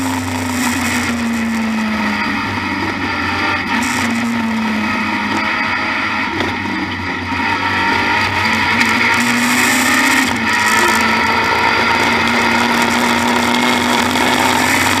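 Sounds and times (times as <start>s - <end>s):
racing car engine running hard: 0.0s - 15.0s.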